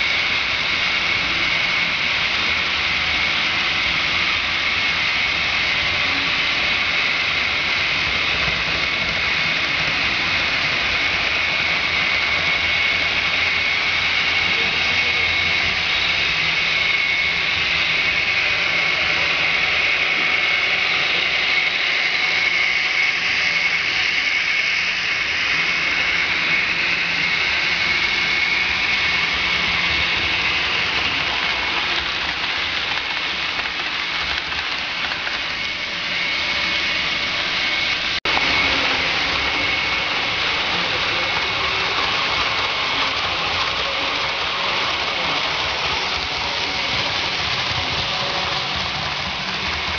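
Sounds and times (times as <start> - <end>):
model trains running on rails: 0.0 - 49.9.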